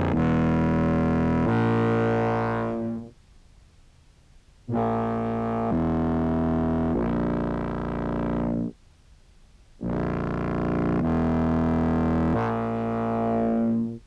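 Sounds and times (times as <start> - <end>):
fuzzy low clarinet notes: 0.0 - 3.3, 4.7 - 8.8, 9.8 - 14.0.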